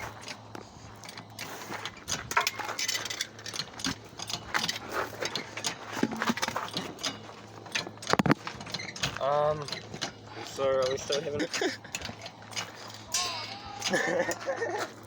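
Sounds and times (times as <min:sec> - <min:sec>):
metallic clicking and clanking: 0:01.0 - 0:14.8.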